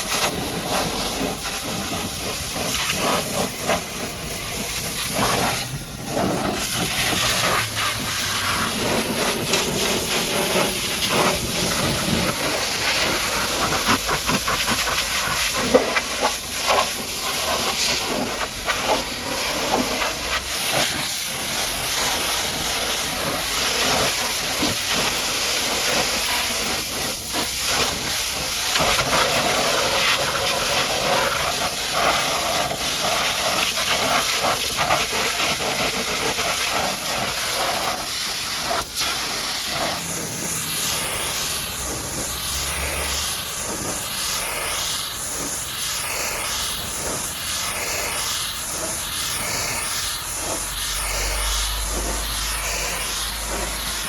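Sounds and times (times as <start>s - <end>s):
pressure washer spraying water: 0.0s - 54.0s.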